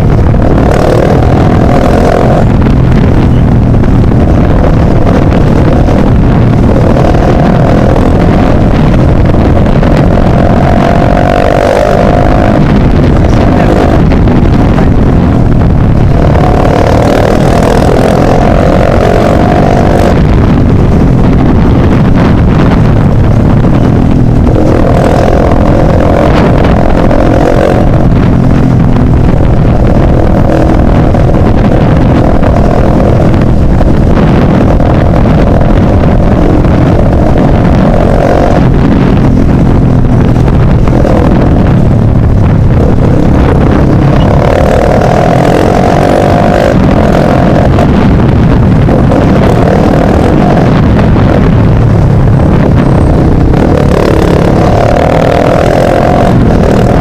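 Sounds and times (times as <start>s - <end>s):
loud motorcycle engine: 0.0s - 57.0s.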